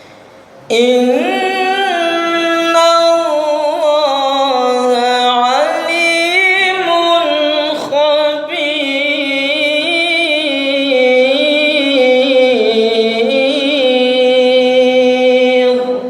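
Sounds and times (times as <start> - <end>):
man reciting melodically: 0.7 - 16.0.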